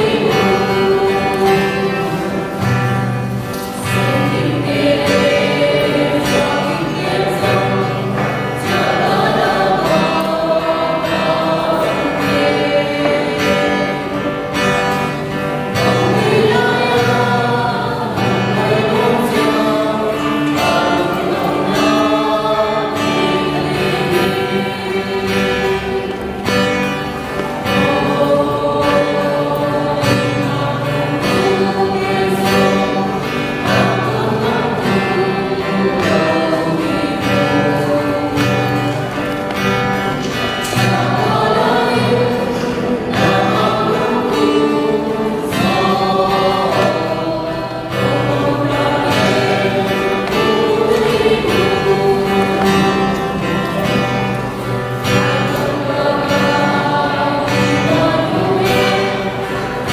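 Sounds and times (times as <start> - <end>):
choir singing a hymn: 0.0 - 59.9
guitar accompaniment: 0.0 - 59.9.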